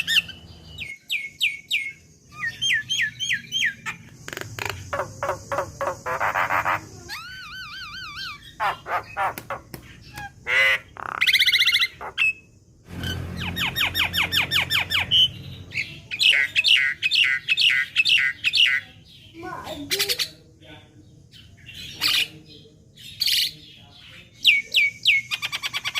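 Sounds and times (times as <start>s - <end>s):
birds whistling and squawking: 0.0s - 20.4s, 23.0s - 25.9s.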